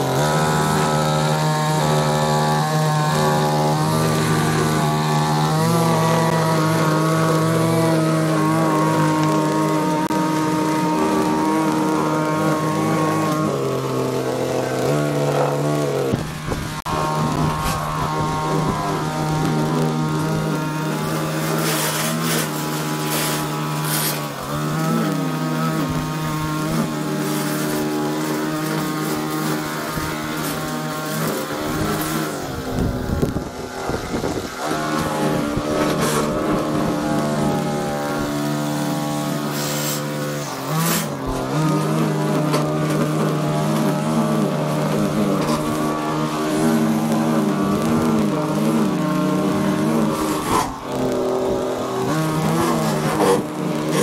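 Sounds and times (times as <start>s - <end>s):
line cutting through grass: 0.0s - 54.0s
string trimmer engine high revs: 0.0s - 54.0s.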